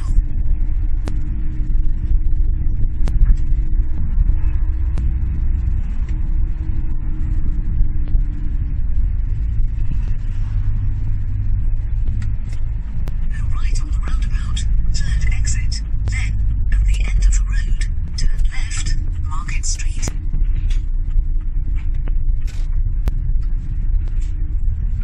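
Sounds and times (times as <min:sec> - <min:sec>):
faint steady hum: 0:00.0 - 0:25.0
vehicle engine and road rumble: 0:00.0 - 0:25.0.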